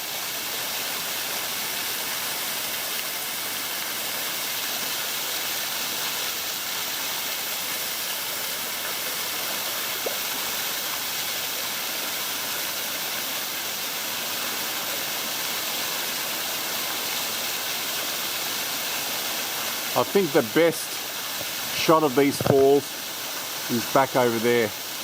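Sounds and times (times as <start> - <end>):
small waterfall splashing: 0.0 - 25.0.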